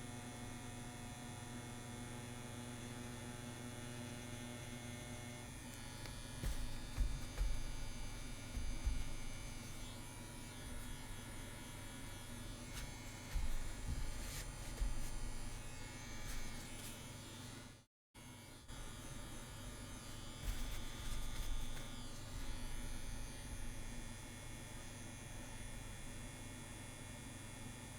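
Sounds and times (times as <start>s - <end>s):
tattoo machine buzzing: 3.2s - 17.6s, 18.2s - 27.1s.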